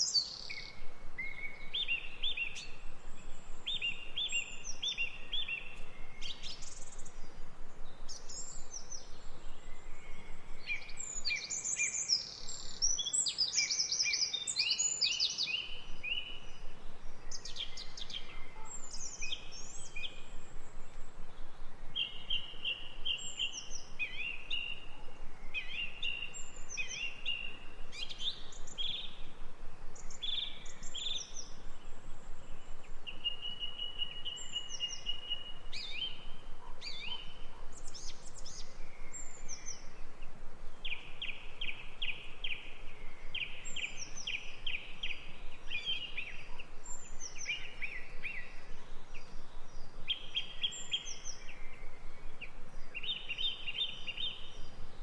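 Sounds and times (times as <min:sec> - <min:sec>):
birds singing and calling: 0:00.0 - 0:29.4, 0:30.0 - 0:55.0.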